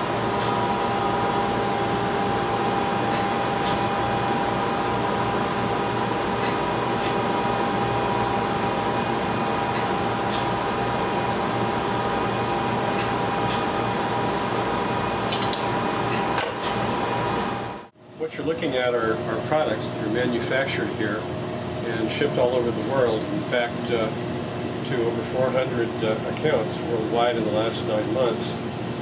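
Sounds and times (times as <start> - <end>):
laboratory equipment hum: 0.0 - 29.0.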